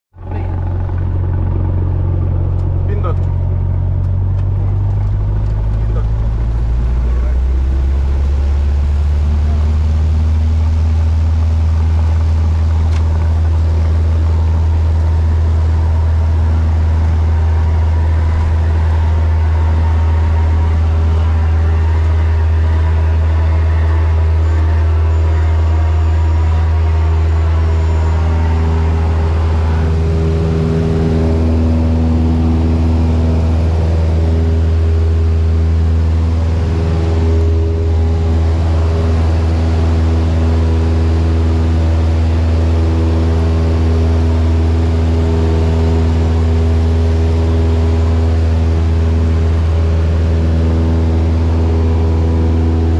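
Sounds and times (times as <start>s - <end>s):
propeller plane engine droning: 0.1s - 52.9s.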